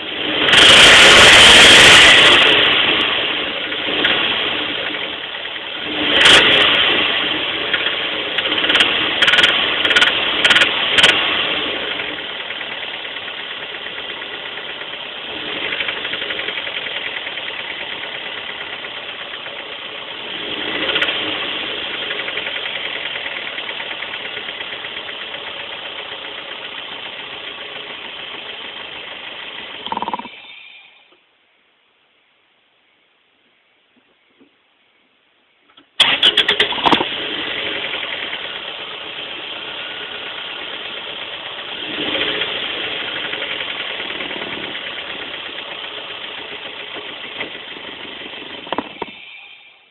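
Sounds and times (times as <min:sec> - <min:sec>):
car engine knocking and revving: 0:00.0 - 0:30.3, 0:36.0 - 0:49.3.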